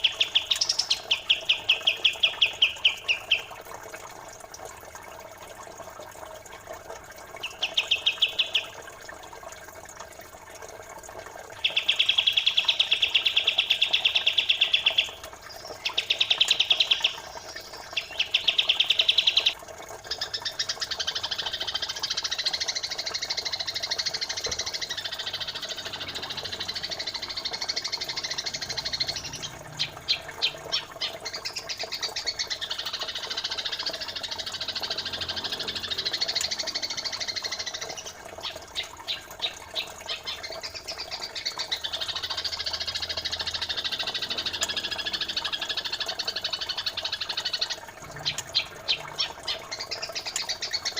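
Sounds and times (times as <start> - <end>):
songbirds trilling and chattering: 0.0 - 3.6, 7.4 - 8.8, 11.5 - 50.9
flowing water: 0.0 - 50.9.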